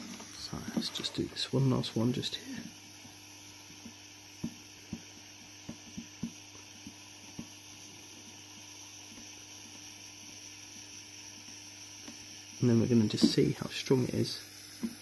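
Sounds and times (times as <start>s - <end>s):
low hum and hiss: 0.0s - 15.0s
melting plastic crackles and pops: 2.1s - 15.0s.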